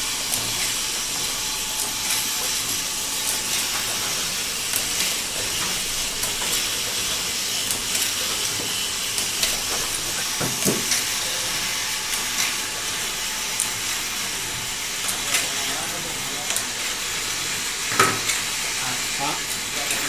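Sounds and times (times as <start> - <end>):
filling machine high hiss: 0.0 - 20.0.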